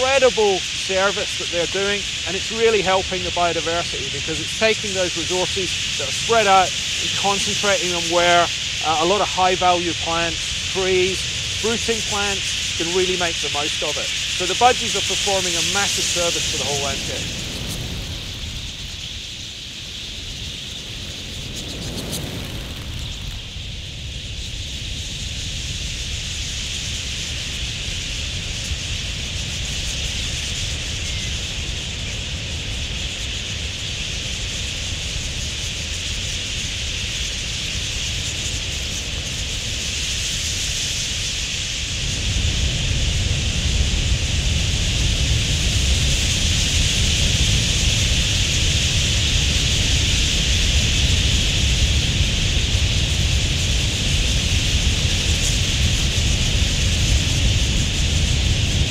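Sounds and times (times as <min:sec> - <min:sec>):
flock of budgerigars chattering: 0:00.0 - 0:23.7, 0:24.4 - 0:43.5, 0:44.5 - 0:58.9.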